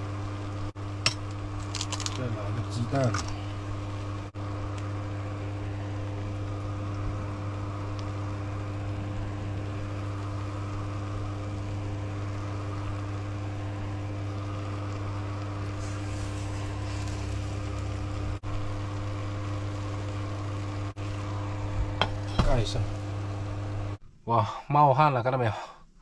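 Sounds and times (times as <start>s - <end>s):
exhaust fan running: 0.0s - 24.0s
low electric hum: 0.0s - 26.0s.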